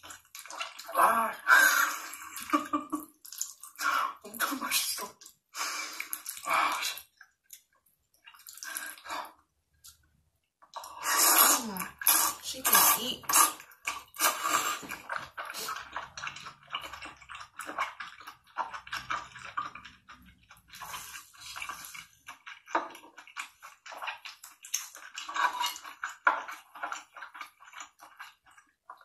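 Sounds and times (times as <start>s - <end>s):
wet chewing and slurping: 0.0s - 29.0s.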